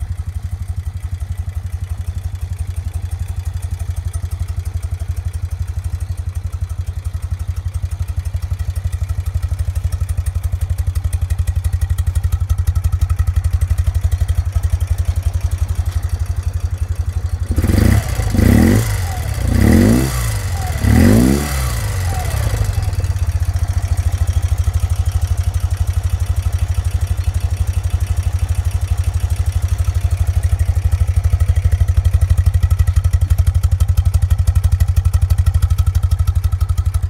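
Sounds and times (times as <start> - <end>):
motorcycle engine revving and idling: 0.0 - 37.0.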